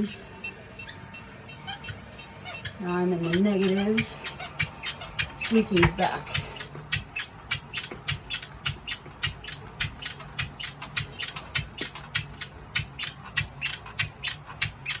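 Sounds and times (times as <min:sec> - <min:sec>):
low steady hum: 0:00.0 - 0:14.9
exercise bike squeaking: 0:00.0 - 0:15.0.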